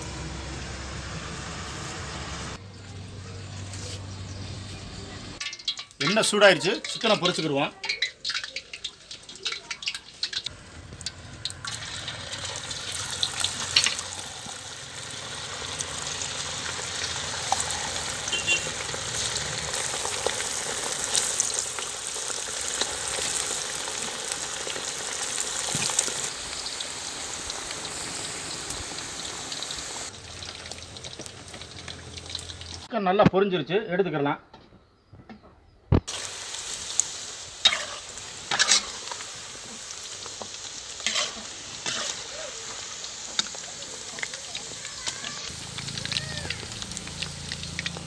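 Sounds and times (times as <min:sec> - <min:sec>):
chicken sizzling in oil: 0:05.4 - 0:32.9, 0:36.1 - 0:48.0.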